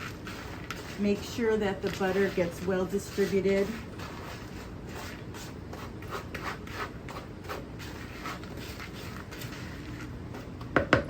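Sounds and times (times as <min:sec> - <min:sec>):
stirring crumbs in a bowl: 0:00.0 - 0:10.7.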